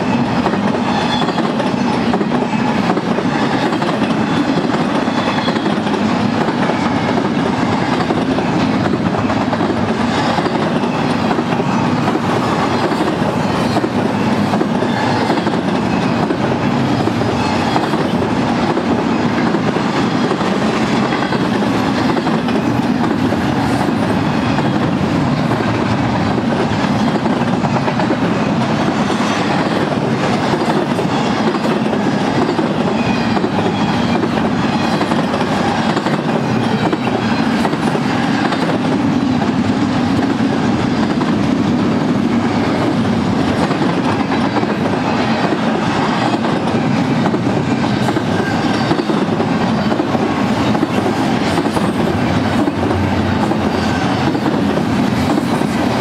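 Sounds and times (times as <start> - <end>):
rail clicks: 0.0 - 56.0
train wheels rumbling on rail: 0.0 - 56.0.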